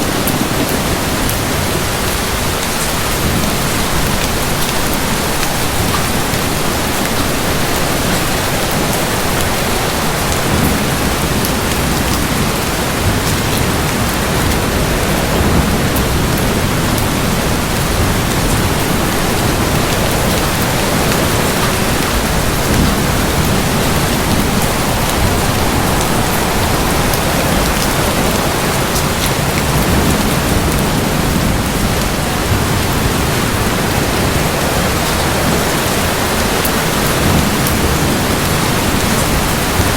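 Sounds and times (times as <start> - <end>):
distant thunder rumbling: 0.0 - 39.9
heavy rain on hard surfaces: 0.0 - 39.9.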